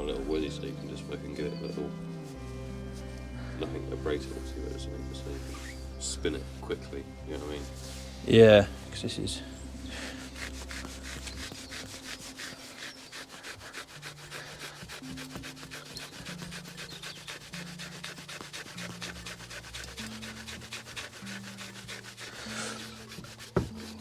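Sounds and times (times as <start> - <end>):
cloth rubbing on metal: 1.3 - 24.0.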